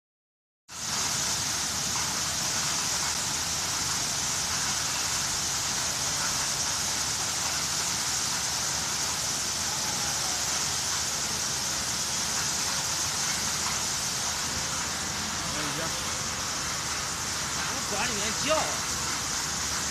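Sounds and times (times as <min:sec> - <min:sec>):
water falling in a sheet: 0:00.7 - 0:19.9.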